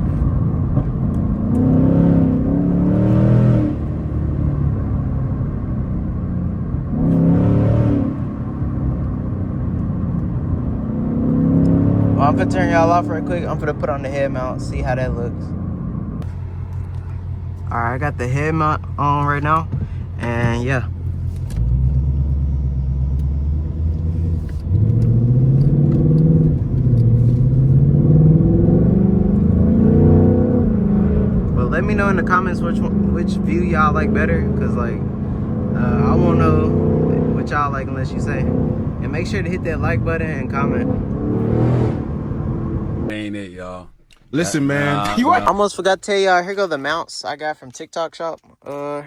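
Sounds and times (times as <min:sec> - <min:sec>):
car engine rumble: 0:00.0 - 0:48.4.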